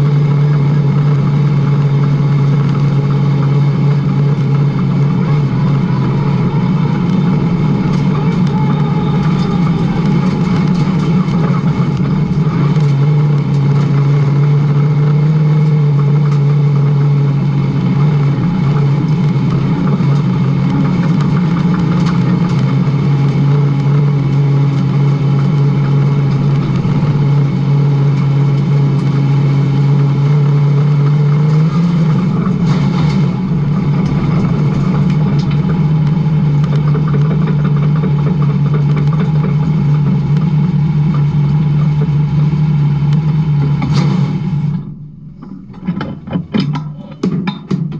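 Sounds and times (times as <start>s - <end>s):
race car engine at high speed: 0.0s - 47.9s.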